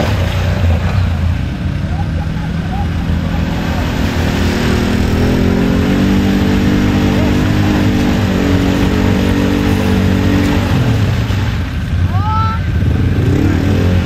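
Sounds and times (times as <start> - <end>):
quad bike engine revving: 0.0 - 14.0.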